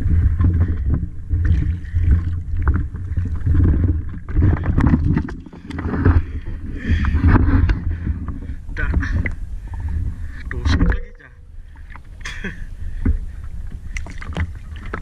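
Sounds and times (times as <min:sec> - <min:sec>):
boat low rumble: 0:00.0 - 0:15.0.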